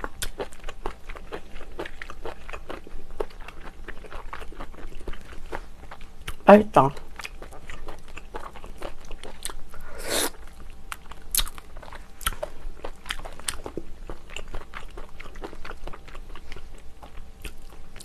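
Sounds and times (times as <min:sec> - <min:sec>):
wet chewing with mouth clicks: 0:00.0 - 0:18.0.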